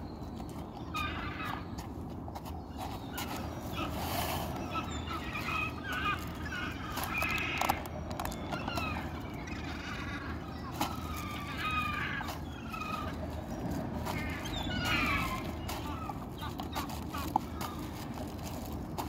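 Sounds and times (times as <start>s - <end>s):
squeaky animal calls: 0.8s - 1.8s, 3.0s - 17.9s.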